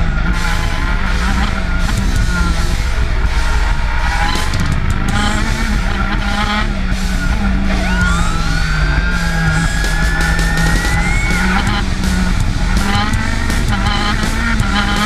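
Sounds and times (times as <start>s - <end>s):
go-kart engine revving: 0.0s - 15.0s.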